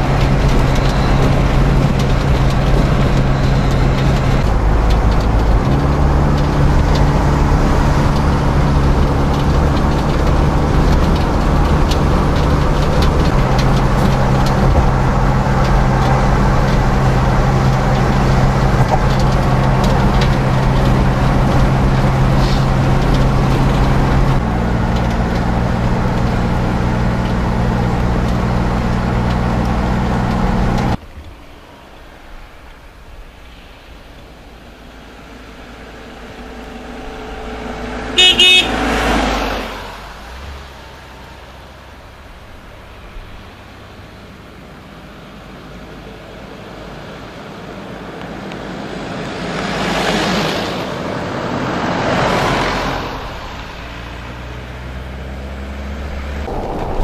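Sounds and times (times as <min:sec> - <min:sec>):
car engine hum: 0:00.0 - 0:57.0
road and wind noise: 0:00.0 - 0:57.0.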